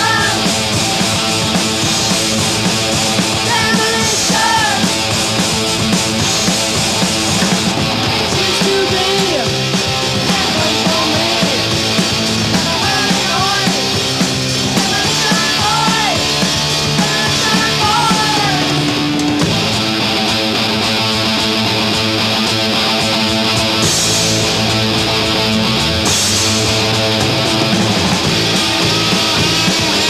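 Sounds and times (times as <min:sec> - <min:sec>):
heavy rock band playing live: 0:00.0 - 0:30.0.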